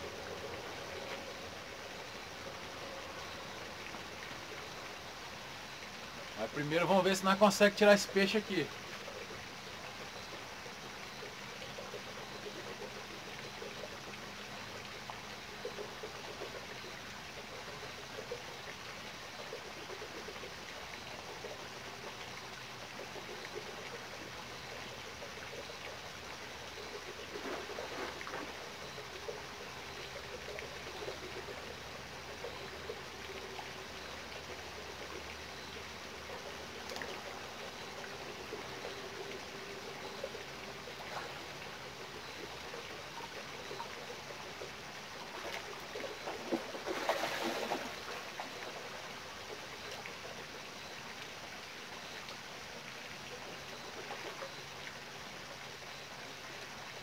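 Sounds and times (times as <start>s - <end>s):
running water trickling: 0.0s - 57.0s.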